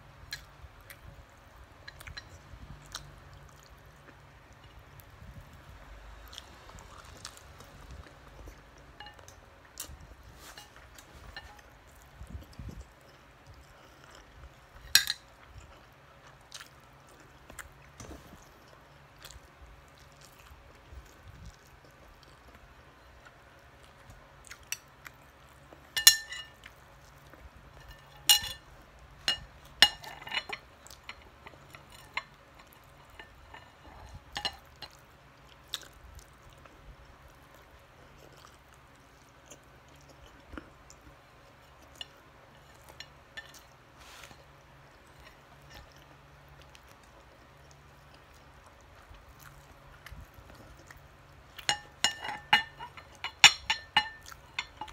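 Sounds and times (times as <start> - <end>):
chewing and mouth noises: 0.3 - 28.5, 29.2 - 54.9.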